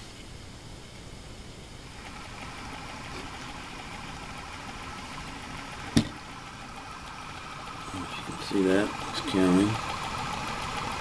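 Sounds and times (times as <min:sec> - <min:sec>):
electric motor running: 0:01.9 - 0:11.0.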